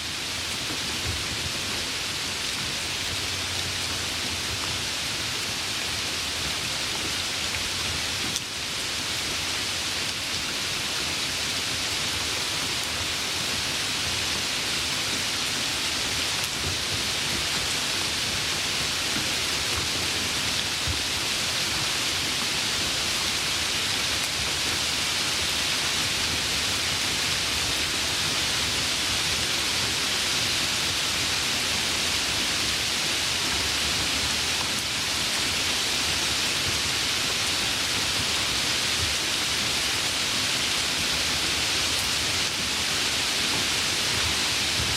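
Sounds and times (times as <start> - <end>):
light rain falling: 0.0 - 44.9.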